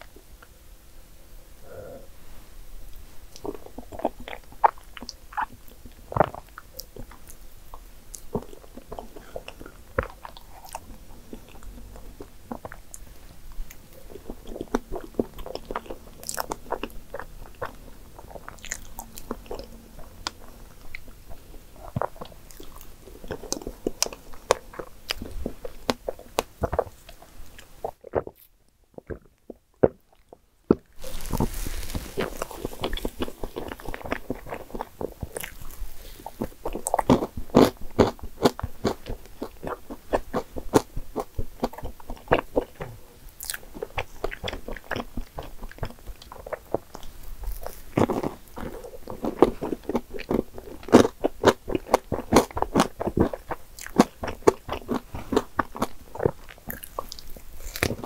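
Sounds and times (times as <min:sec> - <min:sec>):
wet chewing and lip smacks: 0:02.9 - 0:58.0.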